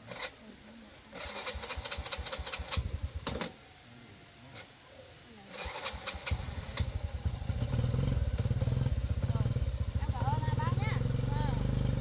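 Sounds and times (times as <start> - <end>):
small engine running: 0.0 - 3.6, 5.4 - 12.0.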